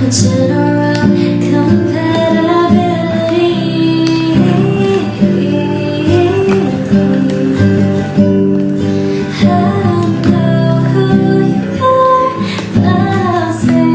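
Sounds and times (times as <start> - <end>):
acoustic guitar playing: 0.0 - 13.9
woman singing: 0.0 - 13.9.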